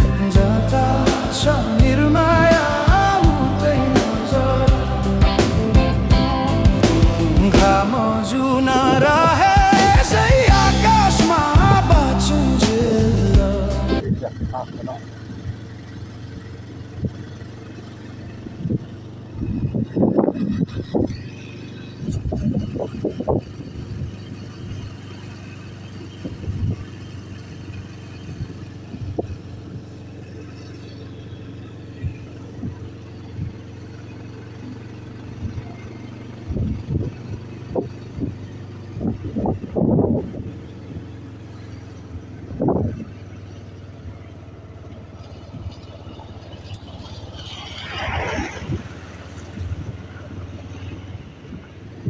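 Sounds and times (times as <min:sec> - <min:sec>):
low motor hum: 0:00.0 - 0:52.0.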